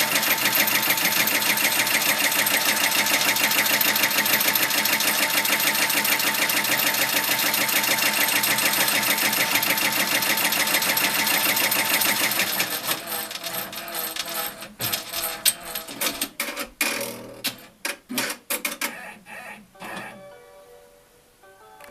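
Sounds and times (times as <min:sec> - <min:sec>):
embroidery machine stitching: 0:00.0 - 0:19.0.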